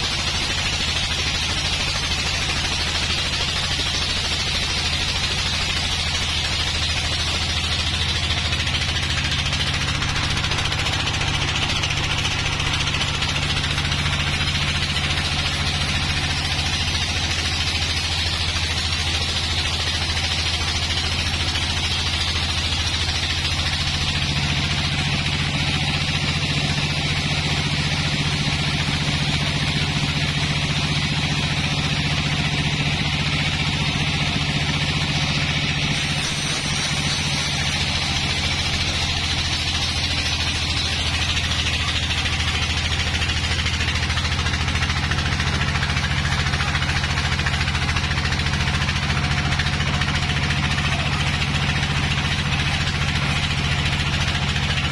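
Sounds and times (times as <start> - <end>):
band sawmill humming: 0.0 - 54.9
saw blade cutting log hiss: 0.0 - 54.9.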